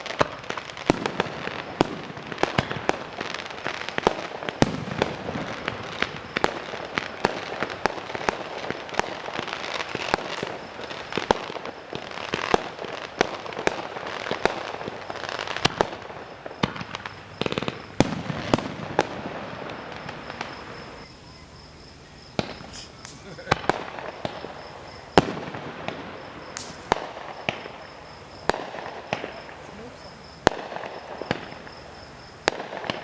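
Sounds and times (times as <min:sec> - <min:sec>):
fireworks bangs: 0:00.0 - 0:33.0
fireworks crackle: 0:00.0 - 0:33.0.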